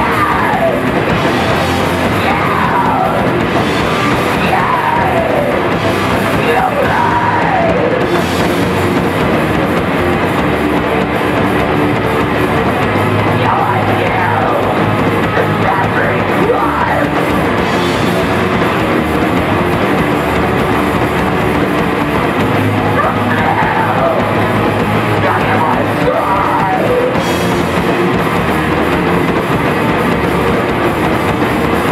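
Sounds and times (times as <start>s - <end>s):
live punk band playing: 0.0s - 31.9s.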